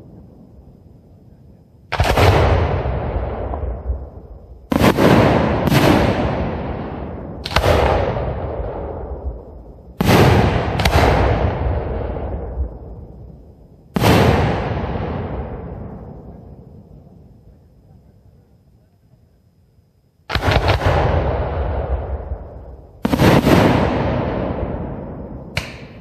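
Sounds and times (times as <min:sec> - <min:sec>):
fireworks bursting with booms: 0:00.0 - 0:18.4, 0:20.2 - 0:26.0.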